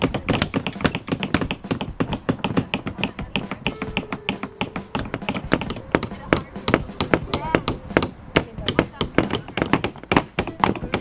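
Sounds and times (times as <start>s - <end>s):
hammers tapping nails into wood: 0.0s - 11.0s.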